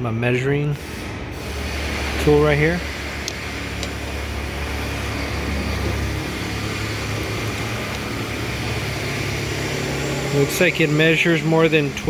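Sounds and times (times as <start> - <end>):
machine humming: 1.3 - 12.0.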